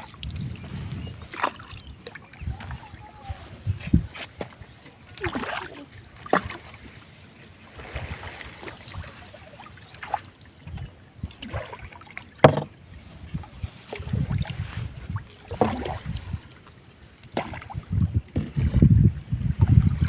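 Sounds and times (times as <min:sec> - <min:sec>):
sharp knocks and splashes: 0:00.0 - 0:02.8, 0:04.0 - 0:07.0, 0:07.7 - 0:20.0
water sloshing against boat: 0:00.0 - 0:20.0.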